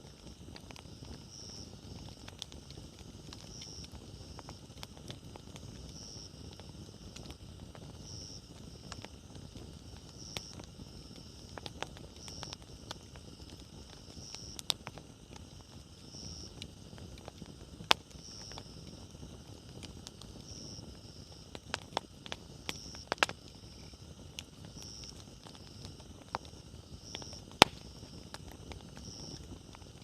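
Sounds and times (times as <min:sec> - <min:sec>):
campfire flames rustling: 0:00.0 - 0:30.0
fire crackles and pops: 0:00.0 - 0:30.0
insect chirp: 0:00.0 - 0:30.0.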